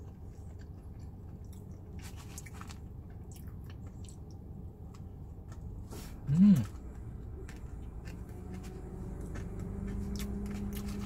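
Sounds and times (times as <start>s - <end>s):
person chewing fried chicken: 0.0s - 5.9s, 6.6s - 11.0s
low steady hum: 0.0s - 11.0s.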